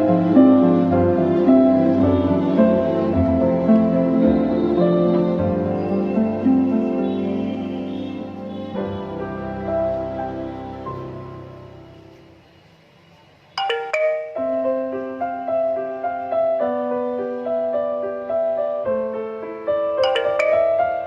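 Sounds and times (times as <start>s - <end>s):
slow piano music: 0.0s - 12.8s, 13.6s - 21.0s.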